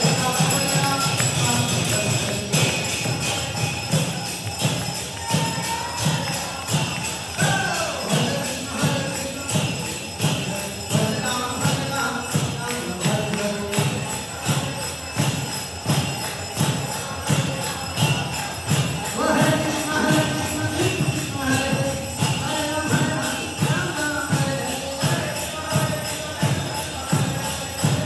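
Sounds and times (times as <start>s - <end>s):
drum beat: 0.0s - 28.0s
jingling hand cymbals: 0.0s - 28.0s
voices singing a chant: 0.0s - 28.0s.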